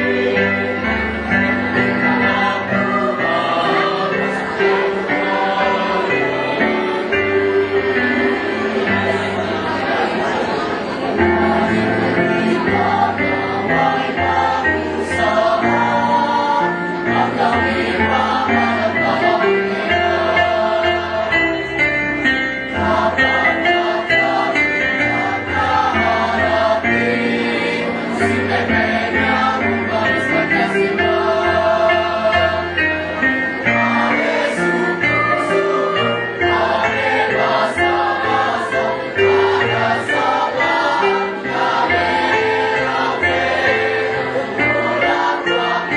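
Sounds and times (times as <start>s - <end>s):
choir singing: 0.0s - 45.9s.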